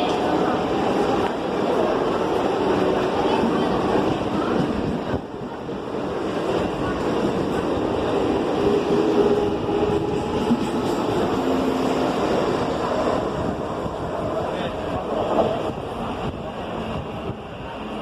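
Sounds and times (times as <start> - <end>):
train coaches rumbling on track: 0.0 - 18.0.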